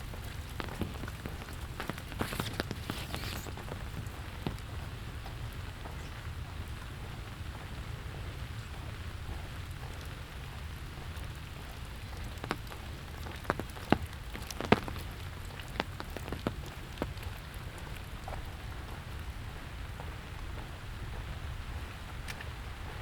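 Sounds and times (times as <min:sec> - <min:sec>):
close drips tapping: 0:00.0 - 0:23.0
rain falling: 0:00.0 - 0:23.0.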